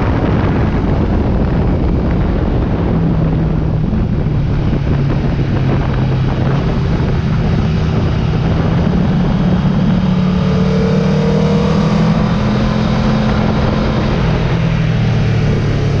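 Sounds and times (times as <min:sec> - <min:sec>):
motorcycle engine running: 0:00.0 - 0:16.0
wind rush: 0:00.0 - 0:16.0.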